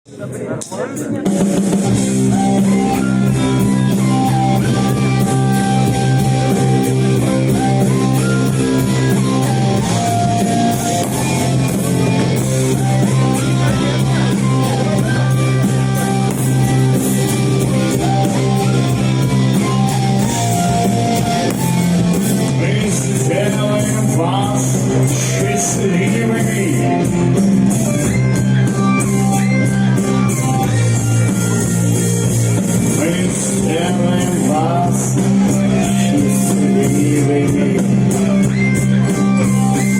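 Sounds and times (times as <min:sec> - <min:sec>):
live rock band playing: 0:00.1 - 0:39.9
electric guitar: 0:00.6 - 0:39.9.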